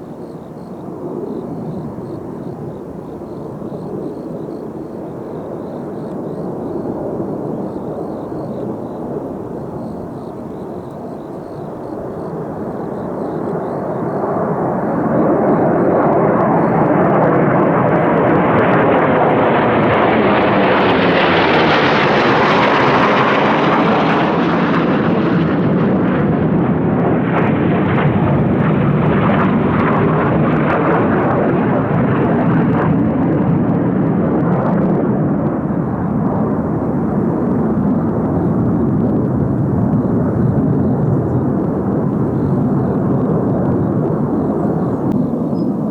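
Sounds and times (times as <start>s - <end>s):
jet aircraft flying past: 0.0s - 45.9s.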